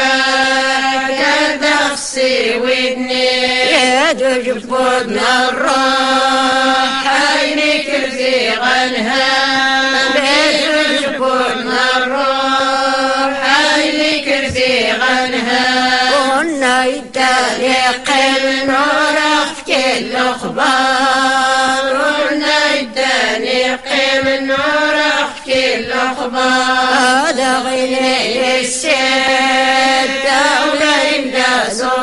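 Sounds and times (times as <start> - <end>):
women singing devotional chant: 0.0 - 32.0.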